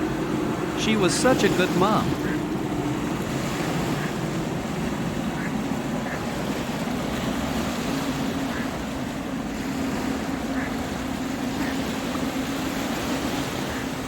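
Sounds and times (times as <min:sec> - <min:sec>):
steady low drone: 0:00.0 - 0:12.9
ocean surf washing in: 0:00.0 - 0:14.0.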